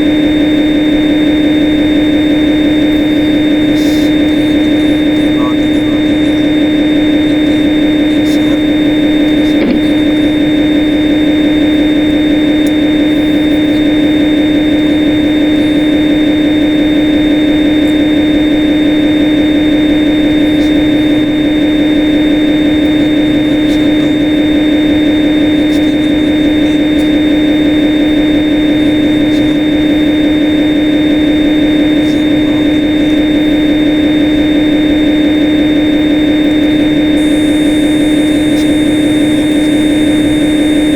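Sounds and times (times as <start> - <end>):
machine hum with high whine: 0.0 - 40.9.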